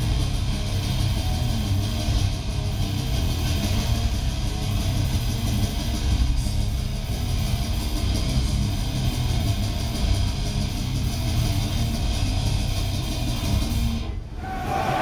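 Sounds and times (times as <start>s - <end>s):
metal band playing live: 0.0s - 14.0s.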